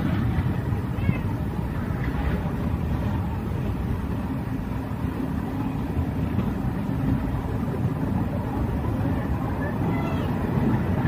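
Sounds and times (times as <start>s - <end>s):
train coach rumbling on track: 0.0s - 11.0s.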